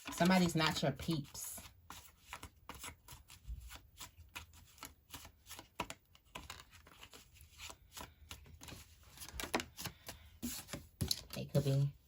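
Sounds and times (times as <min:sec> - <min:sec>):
cards being shuffled: 0:00.0 - 0:11.8.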